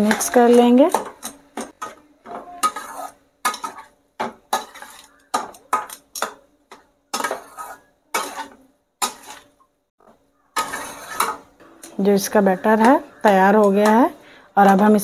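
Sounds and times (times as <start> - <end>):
spatula scraping a metal pan: 0.0 - 9.6, 10.5 - 14.0.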